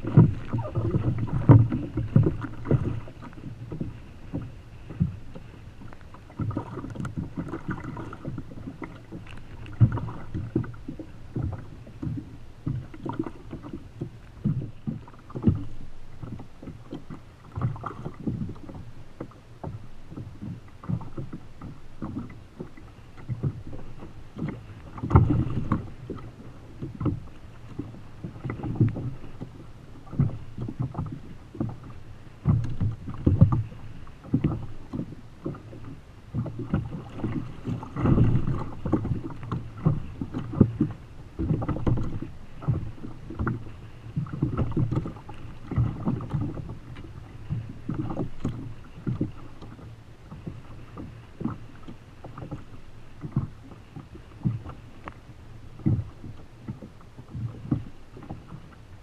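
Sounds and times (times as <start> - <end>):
waves slapping plastic hull: 0.0 - 59.0.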